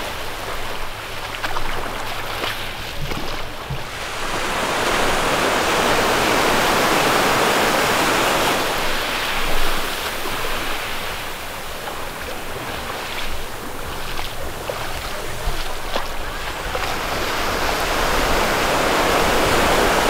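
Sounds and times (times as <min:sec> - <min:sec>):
waves washing onto beach: 0:00.0 - 0:20.0.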